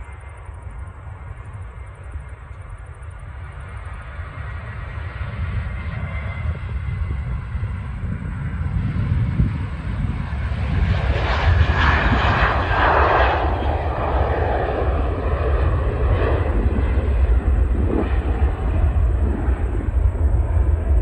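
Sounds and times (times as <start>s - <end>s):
jet engine roar: 0.0s - 21.0s
deep rumble: 3.6s - 21.0s.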